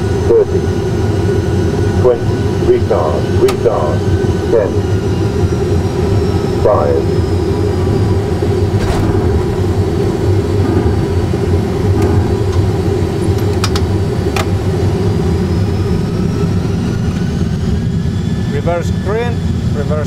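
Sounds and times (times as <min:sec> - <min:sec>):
jet engines and runway rumble: 0:00.0 - 0:20.0.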